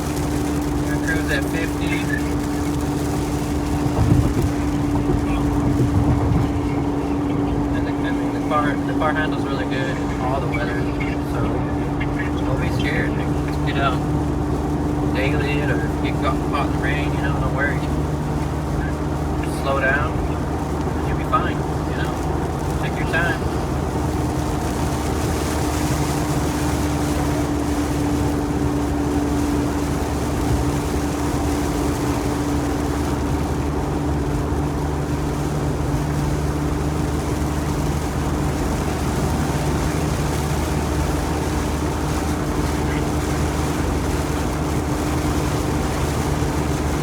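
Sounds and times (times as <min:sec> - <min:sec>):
car engine drone: 0:00.0 - 0:47.0
road noise: 0:00.0 - 0:47.0.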